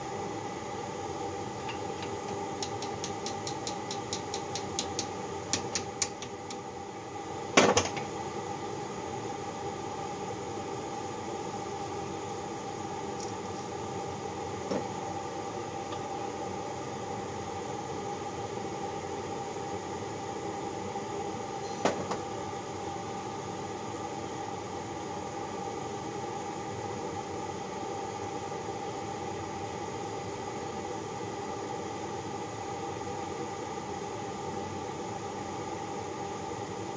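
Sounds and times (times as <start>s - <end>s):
steady mechanical hum: 0.0s - 36.9s.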